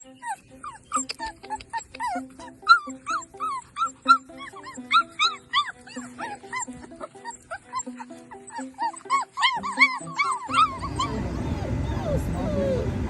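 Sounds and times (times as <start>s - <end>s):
background music: 0.0s - 13.0s
puppies whimpering and yipping: 0.0s - 13.0s.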